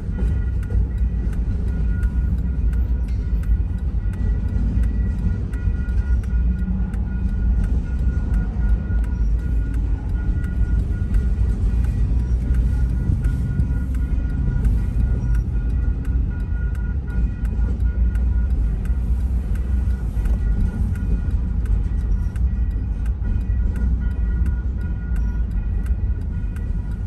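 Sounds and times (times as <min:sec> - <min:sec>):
crossing bell ringing: 0:00.0 - 0:27.0
freight train rumbling: 0:00.0 - 0:27.0.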